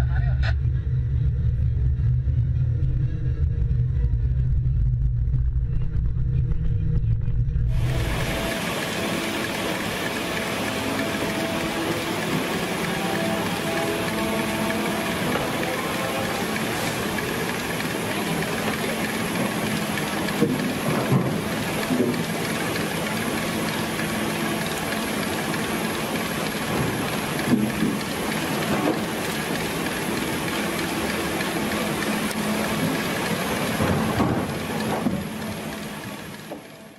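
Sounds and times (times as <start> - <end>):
diesel engine and hydraulics: 0.0 - 36.9.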